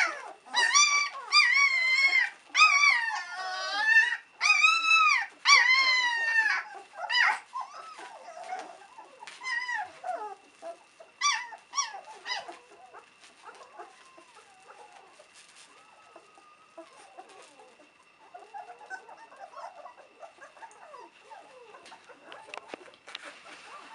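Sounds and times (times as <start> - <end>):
puppies squeaking and grunting: 0.0 - 23.9
puppies yelping: 0.0 - 23.9.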